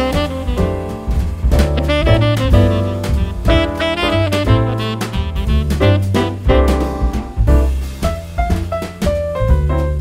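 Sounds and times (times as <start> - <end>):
instrumental jazz music: 0.0 - 10.0.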